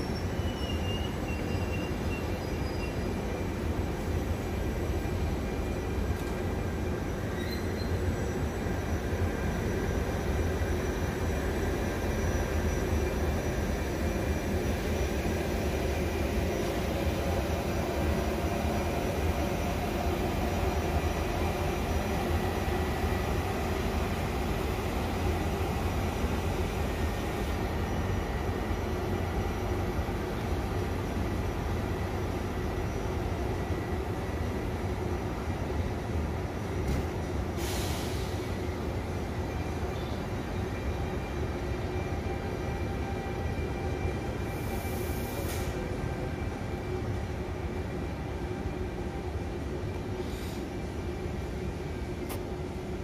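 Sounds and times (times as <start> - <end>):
train running gear rumble: 0.0 - 53.0.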